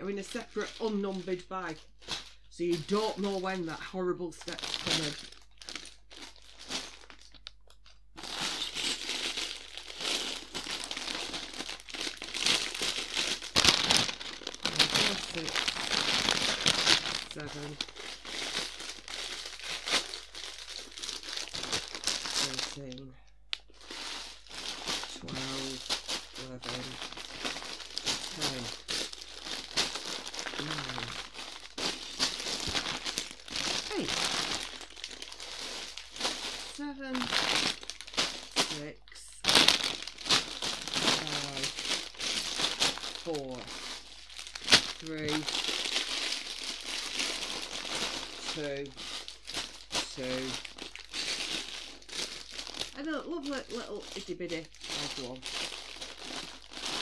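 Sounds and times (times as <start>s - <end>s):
plastic bags crinkling: 0.0s - 57.0s.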